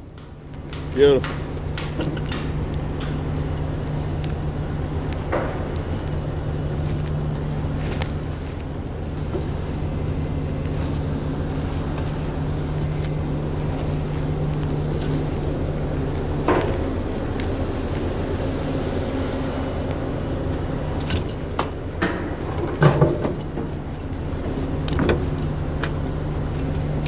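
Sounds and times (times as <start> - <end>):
large engine humming: 0.0 - 27.0.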